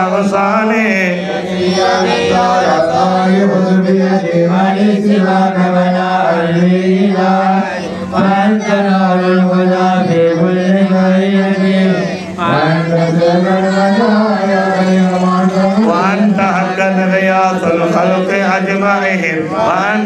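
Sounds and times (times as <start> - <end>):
men chanting melodic verses: 0.0 - 20.0.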